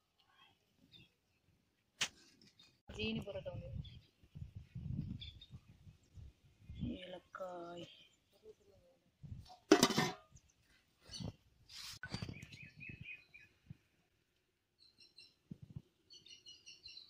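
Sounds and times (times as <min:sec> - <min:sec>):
small birds chirping: 0:00.2 - 0:01.5, 0:02.4 - 0:09.2, 0:10.3 - 0:14.0, 0:14.8 - 0:17.0.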